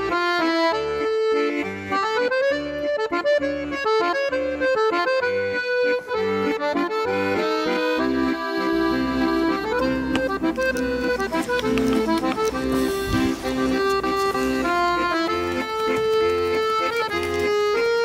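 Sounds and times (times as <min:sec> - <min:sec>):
melody of held notes: 0:00.0 - 0:18.0.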